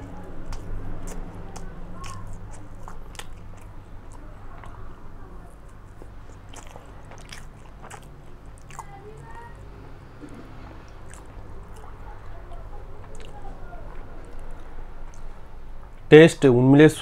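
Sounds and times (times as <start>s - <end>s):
wet mouth clicks: 0.0s - 4.9s, 5.5s - 9.4s, 10.1s - 12.4s, 13.0s - 16.0s
person chewing crunchy food: 0.0s - 16.0s
steady low hum: 0.0s - 17.0s.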